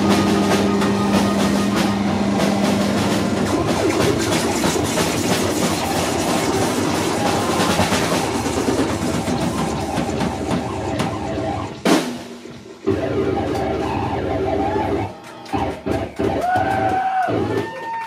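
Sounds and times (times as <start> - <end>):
drum kit with cymbals: 0.0 - 17.8
electric guitars: 0.0 - 17.8.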